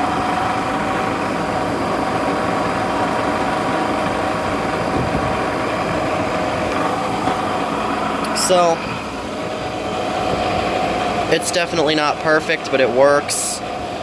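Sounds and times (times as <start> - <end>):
fan air rushing: 0.0 - 14.0
window air conditioner humming: 0.0 - 14.0.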